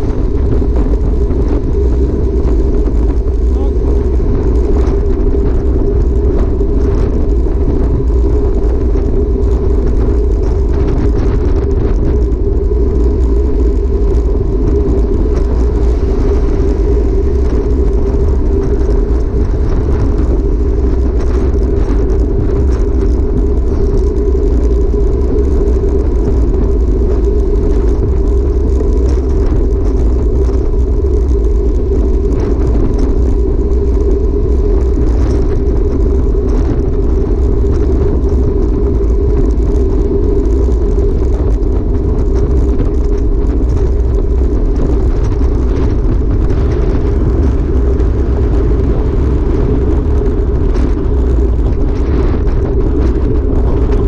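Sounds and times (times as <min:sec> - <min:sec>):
bicycle tyres rolling on asphalt: 0:00.0 - 0:54.0
wind rush on microphone: 0:00.0 - 0:54.0.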